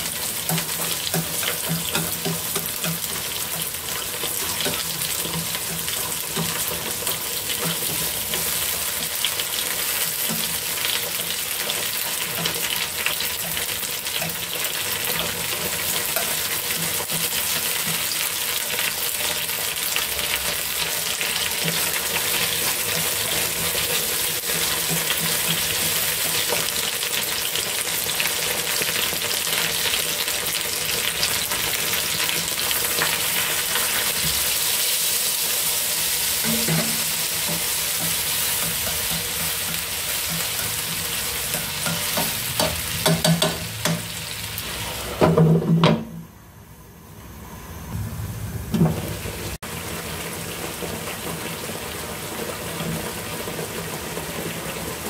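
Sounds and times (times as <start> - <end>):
meat sizzling in oil: 0.0 - 45.2, 49.1 - 55.0.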